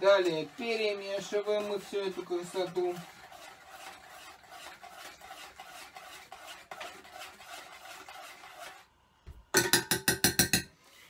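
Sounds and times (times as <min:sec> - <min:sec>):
spoon scraping a pot: 0:00.0 - 0:08.9.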